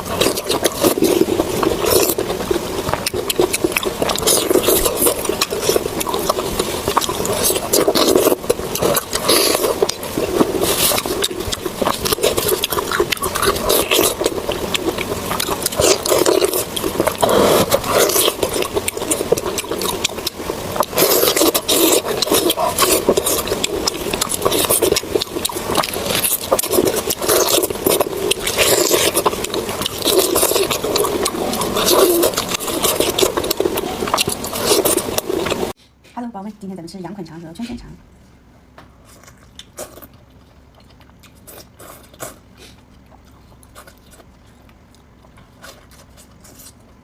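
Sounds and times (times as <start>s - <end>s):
person chewing food: 0.0s - 35.8s, 38.8s - 47.0s.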